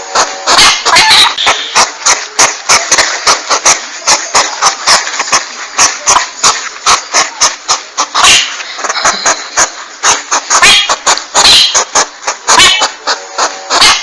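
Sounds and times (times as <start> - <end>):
rasping hiss: 0.0 - 14.0
porcupine call clicks: 0.5 - 14.0.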